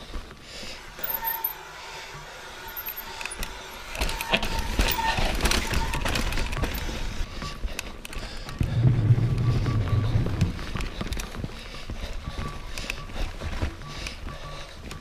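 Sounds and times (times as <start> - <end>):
bike tyre noise on rough trail: 0.0 - 15.0
bike clicks and rattles: 2.7 - 15.0.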